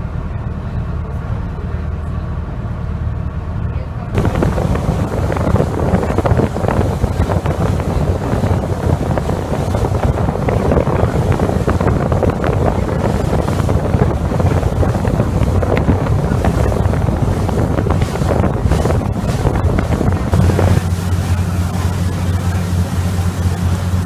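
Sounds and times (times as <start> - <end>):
boat motor running: 0.0 - 24.0
water rushing along hull: 0.0 - 24.0
wind rush on microphone: 4.1 - 24.0.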